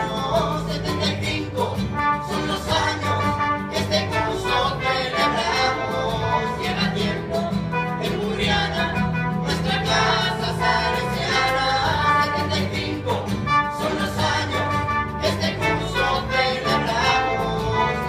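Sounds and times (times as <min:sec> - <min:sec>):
live band playing pop music: 0:00.0 - 0:18.0
voices singing along: 0:00.0 - 0:18.0.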